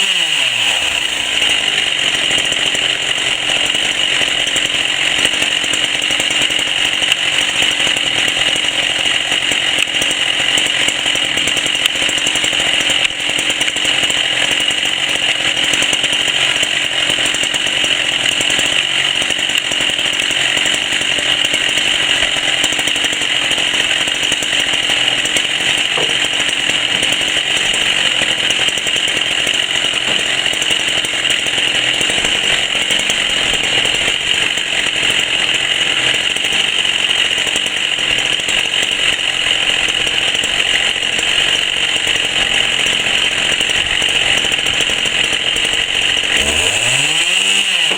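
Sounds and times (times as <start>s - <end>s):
chainsaw running: 0.0s - 47.9s.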